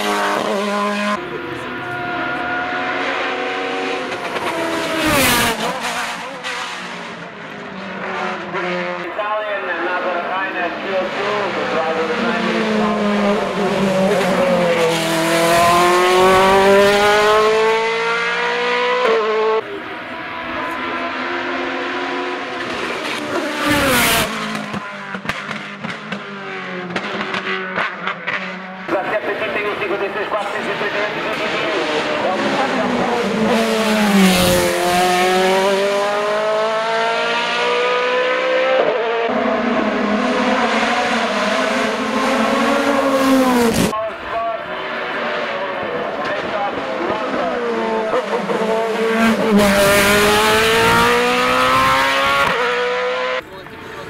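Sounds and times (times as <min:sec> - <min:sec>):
racing engine accelerating: 0:00.0 - 0:09.0, 0:10.2 - 0:54.0.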